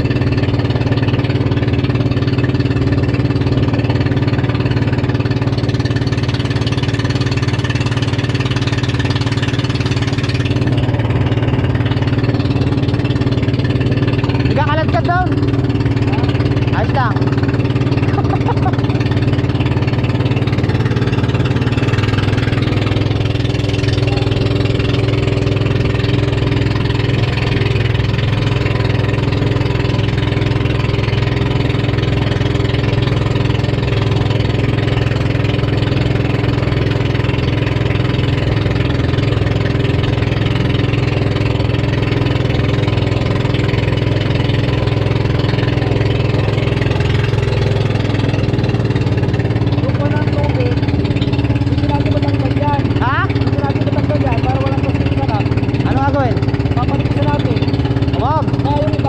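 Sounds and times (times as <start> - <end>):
boat engine running steadily: 0.0 - 59.0.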